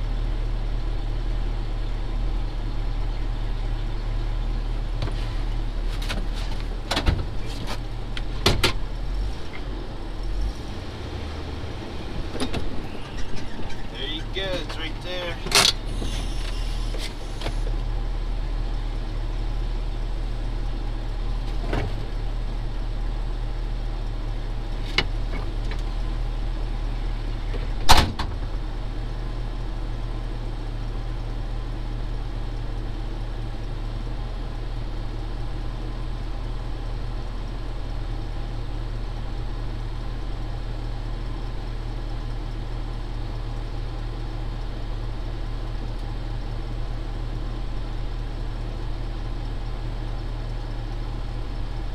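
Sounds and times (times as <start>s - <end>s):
truck engine idling: 0.0s - 51.9s.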